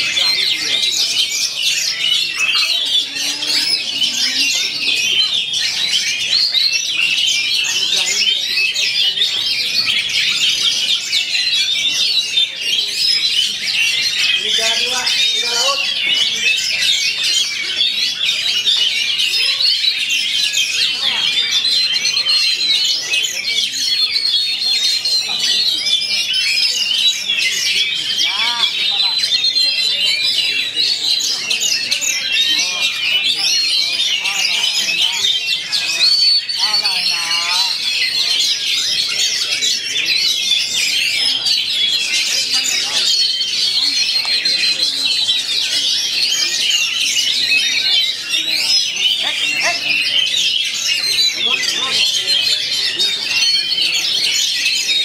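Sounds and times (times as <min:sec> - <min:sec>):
songbirds whistling and chirping: 0:00.0 - 0:55.0.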